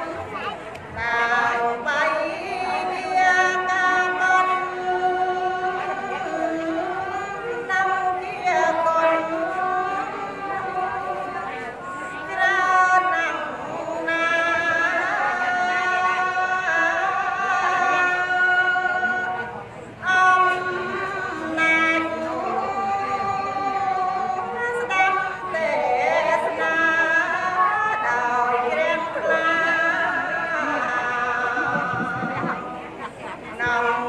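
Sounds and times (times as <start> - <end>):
woman chanting verse: 0.0 - 34.0.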